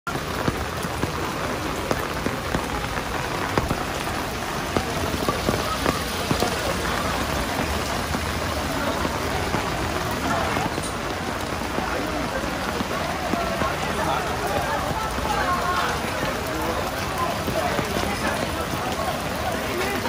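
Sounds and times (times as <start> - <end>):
heavy rain on pavement: 0.0 - 20.0
raindrops tapping: 0.1 - 20.0.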